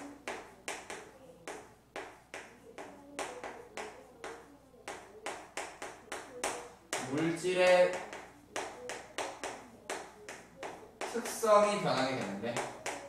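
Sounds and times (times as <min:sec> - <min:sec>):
chalk tapping on chalkboard: 0:00.0 - 0:13.0.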